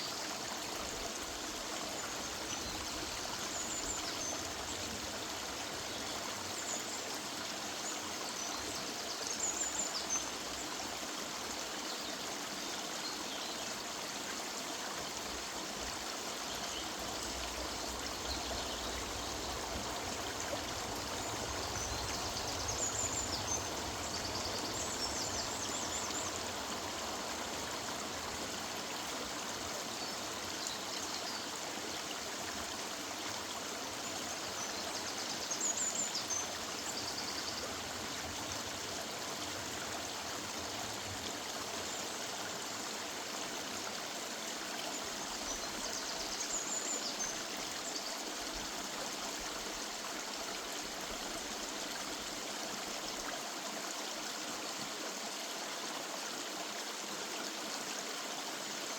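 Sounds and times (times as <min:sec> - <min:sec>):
river water running: 0:00.0 - 0:58.9.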